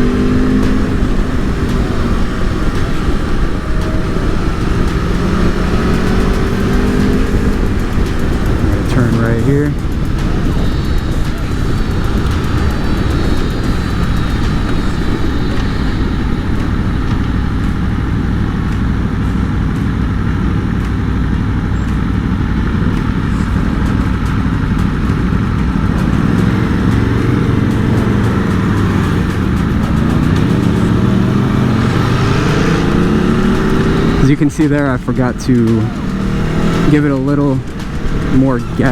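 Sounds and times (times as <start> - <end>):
wind on microphone: 0.0 - 37.0
motorcycle engine running: 0.0 - 38.9.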